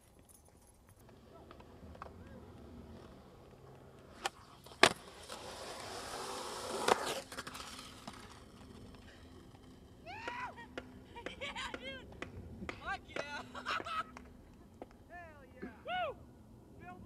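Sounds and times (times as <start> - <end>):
skateboard wheels rolling on concrete: 0.0 - 17.0
skateboard clack: 1.0 - 15.1.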